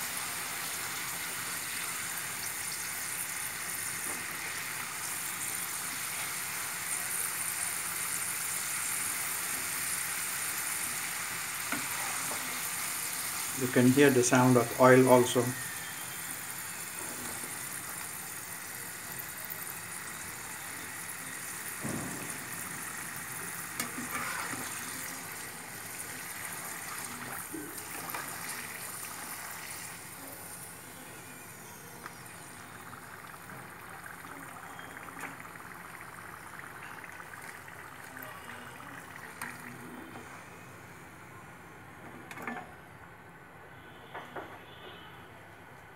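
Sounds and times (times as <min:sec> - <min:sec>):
oil sizzling in a wok: 0:00.0 - 0:41.0.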